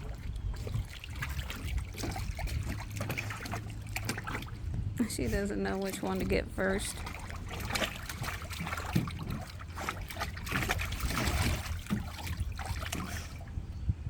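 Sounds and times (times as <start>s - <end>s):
dog splashing in water: 0.0s - 13.6s.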